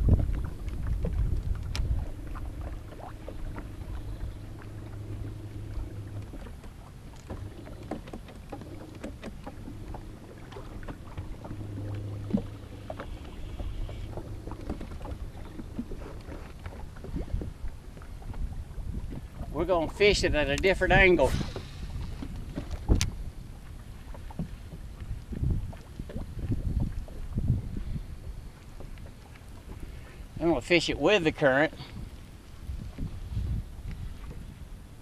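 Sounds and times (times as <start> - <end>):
boat motor humming: 0.0 - 35.0.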